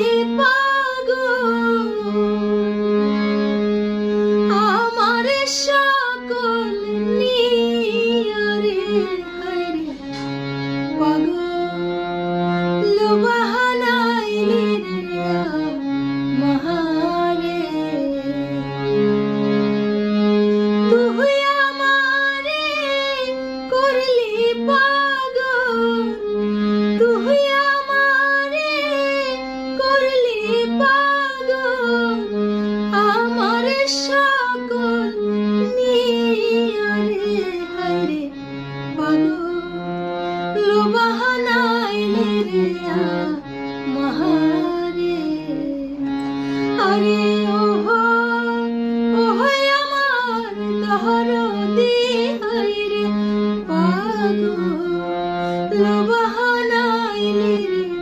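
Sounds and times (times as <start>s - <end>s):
woman singing: 0.0s - 2.8s, 4.4s - 10.1s, 10.9s - 11.9s, 12.8s - 18.6s, 20.9s - 58.0s
harmonium sustained notes: 0.0s - 58.0s.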